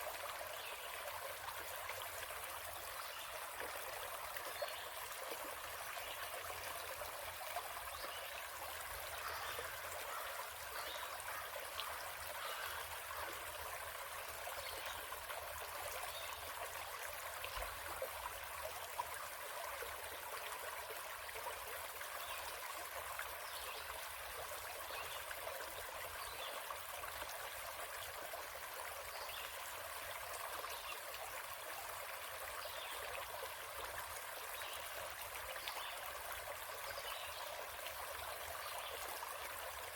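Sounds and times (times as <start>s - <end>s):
forest stream trickling: 0.0s - 39.9s.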